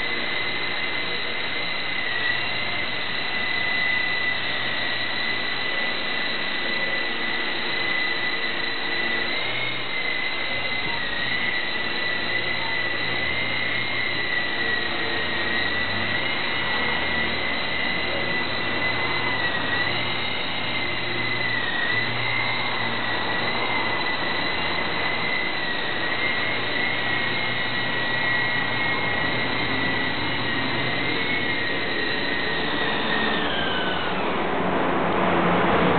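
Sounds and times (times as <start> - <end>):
model helicopter motor whine: 0.0 - 35.9.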